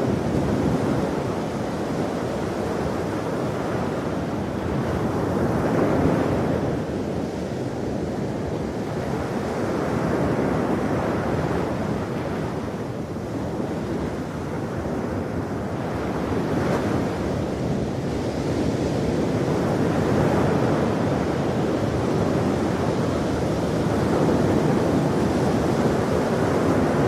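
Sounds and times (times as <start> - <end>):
ocean waves breaking on shore: 0.0 - 27.0.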